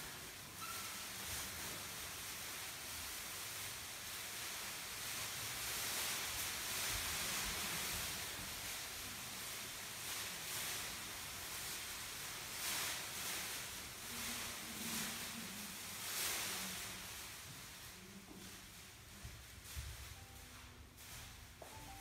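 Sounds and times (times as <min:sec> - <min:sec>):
foil blankets crinkling: 0:00.0 - 0:22.0.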